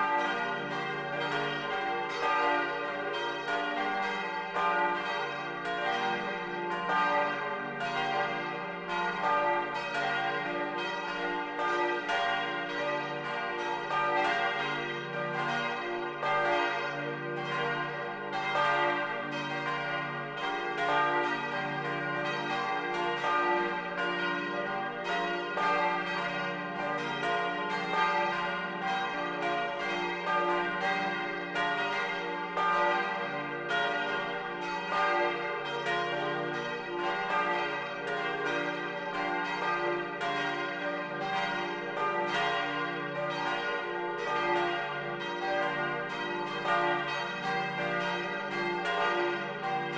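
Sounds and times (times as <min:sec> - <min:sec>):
church bells ringing: 0:00.0 - 0:49.9.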